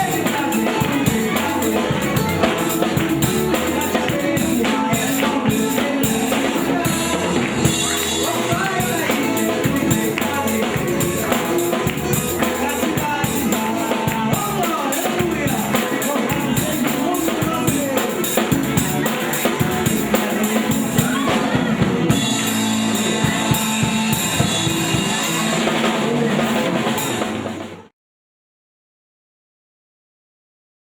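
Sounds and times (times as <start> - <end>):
drum kit: 0.0 - 27.9
live band playing gospel song: 0.0 - 27.9.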